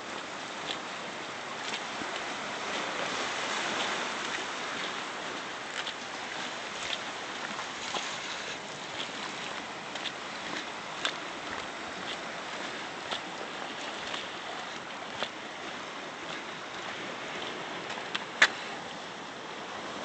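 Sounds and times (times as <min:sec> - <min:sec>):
small waves washing over rocks: 0:00.0 - 0:20.0
light footsteps on walkway: 0:00.1 - 0:01.0, 0:01.6 - 0:19.1.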